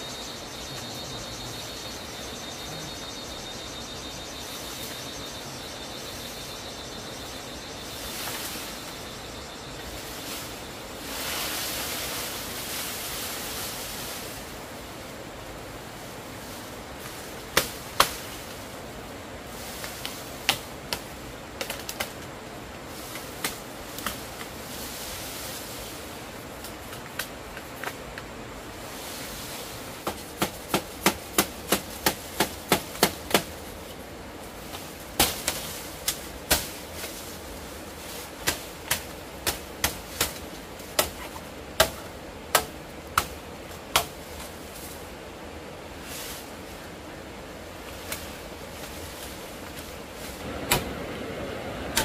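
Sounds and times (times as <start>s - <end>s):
steady rushing noise: 0.0s - 52.0s.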